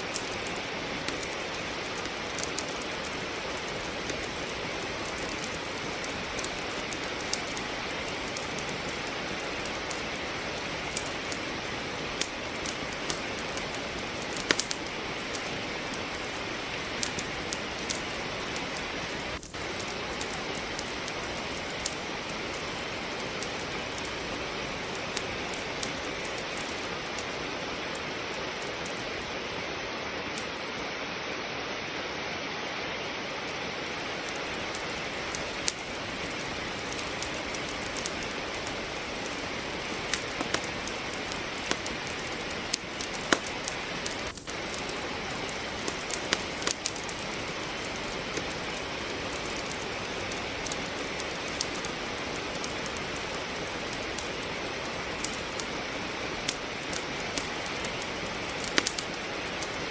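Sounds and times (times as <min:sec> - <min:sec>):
firewood popping and crackling: 0:00.0 - 0:30.7, 0:33.5 - 0:59.9
steady rain falling: 0:00.0 - 0:59.9.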